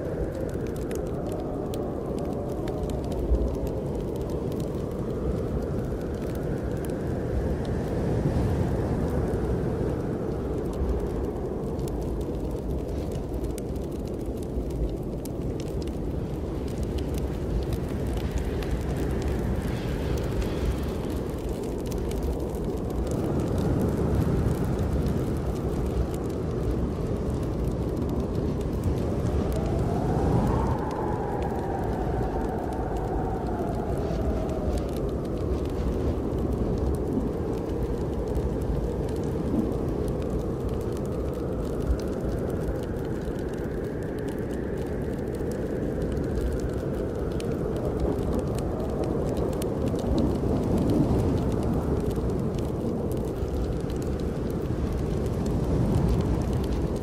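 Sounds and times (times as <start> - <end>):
snowstorm wind rushing: 0.0 - 57.0
wood fire crackling: 0.0 - 57.0.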